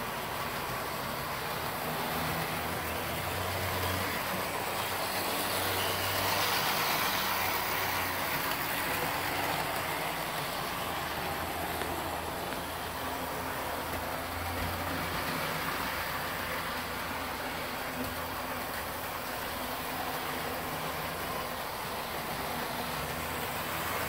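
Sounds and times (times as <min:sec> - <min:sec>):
model train motors whirring: 0:00.0 - 0:24.0.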